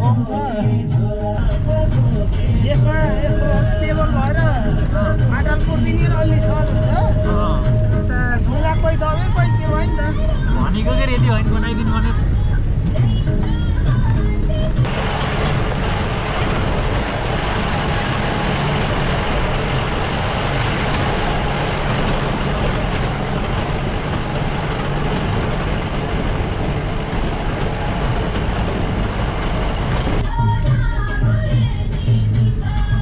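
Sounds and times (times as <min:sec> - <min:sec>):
car engine running: 0:00.0 - 0:33.0
road and tyre noise: 0:00.0 - 0:33.0.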